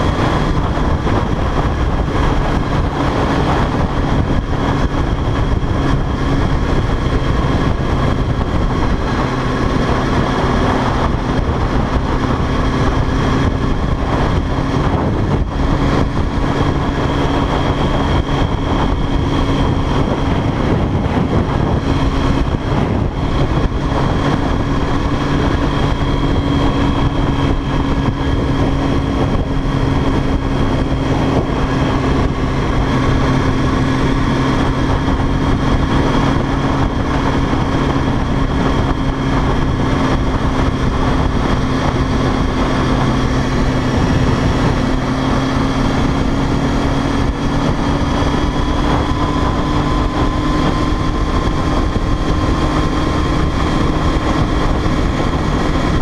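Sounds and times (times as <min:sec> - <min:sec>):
motorcycle engine running: 0:00.0 - 0:56.0
road noise: 0:00.0 - 0:56.0
wind rush: 0:00.0 - 0:56.0.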